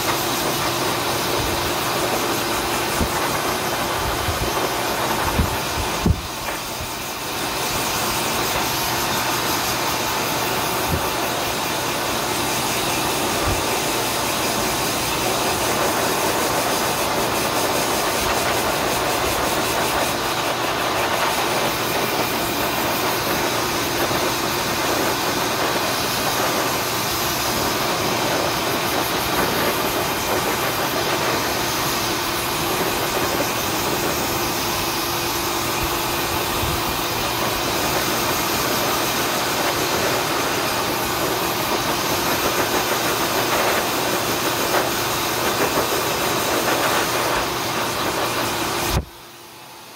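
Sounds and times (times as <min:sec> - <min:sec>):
grooming dryer blowing air: 0:00.0 - 0:49.9.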